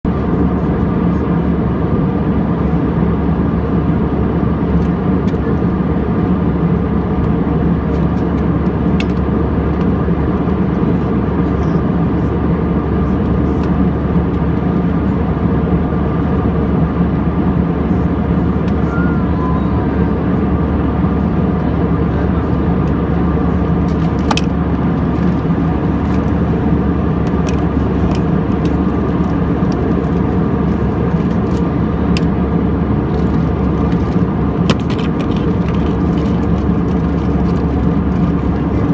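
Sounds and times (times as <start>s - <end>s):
airliner cabin drone: 0.0s - 38.9s
low hum: 0.1s - 38.9s.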